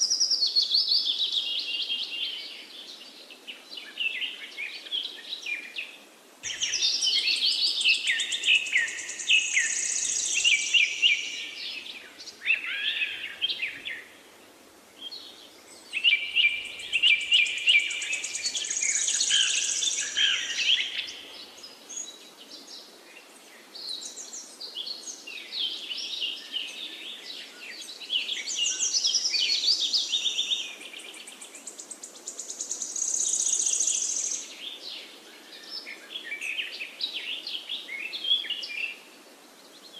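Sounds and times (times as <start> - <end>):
songbird singing trills: 0.0 - 14.2, 15.0 - 22.7, 23.8 - 39.0.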